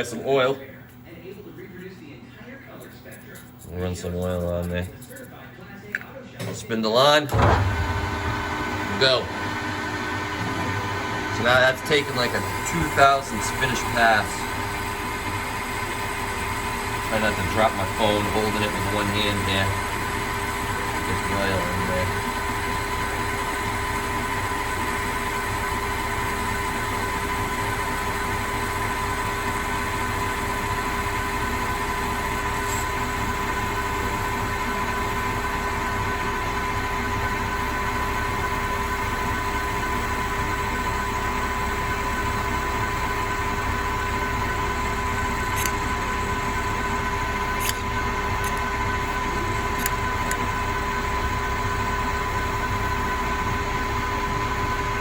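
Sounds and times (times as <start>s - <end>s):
lathe machine whine: 7.3s - 55.0s.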